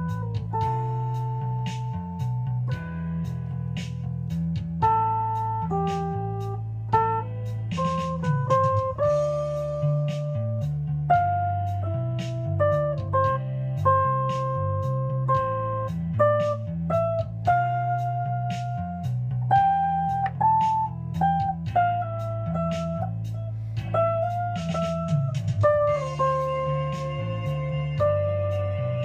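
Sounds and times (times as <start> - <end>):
electric guitar slow melody: 0.0 - 29.0.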